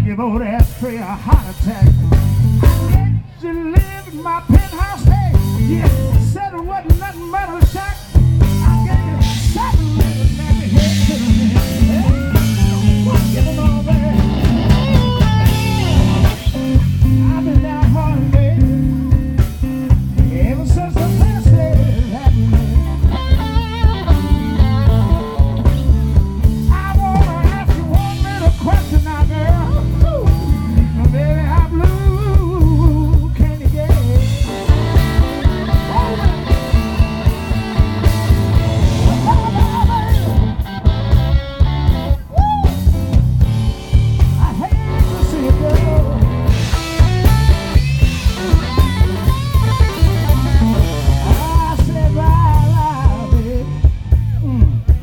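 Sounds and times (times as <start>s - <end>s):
blues band playing: 0.0s - 55.0s
electric guitar bending notes: 7.6s - 55.0s.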